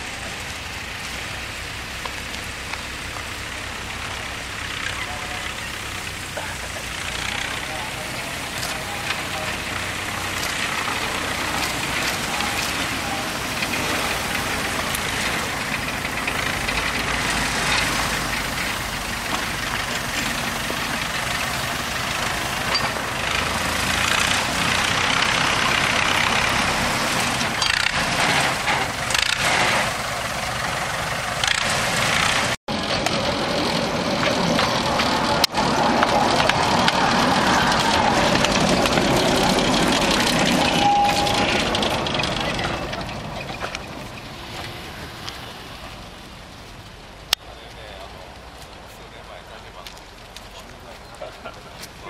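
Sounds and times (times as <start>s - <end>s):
diesel locomotive engine running: 0.0s - 52.0s.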